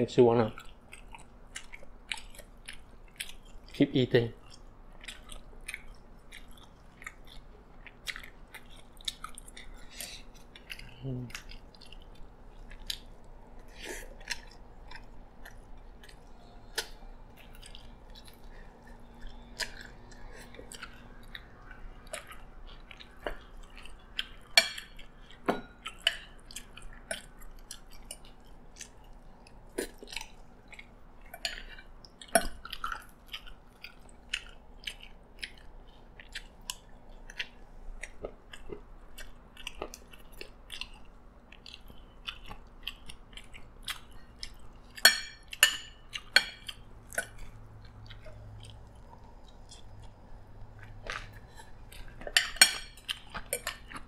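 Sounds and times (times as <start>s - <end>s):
person chewing food: 0.4s - 54.0s.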